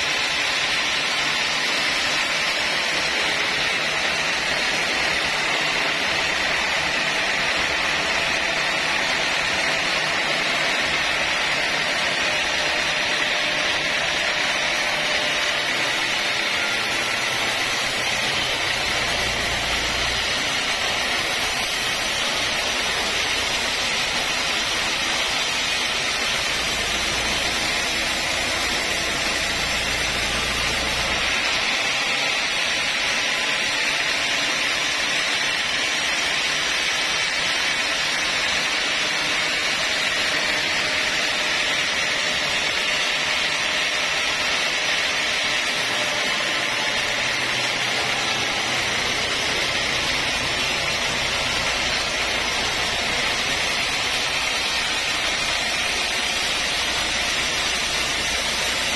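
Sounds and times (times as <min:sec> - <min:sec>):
low rumble of saw cutting log: 0:00.0 - 0:58.9.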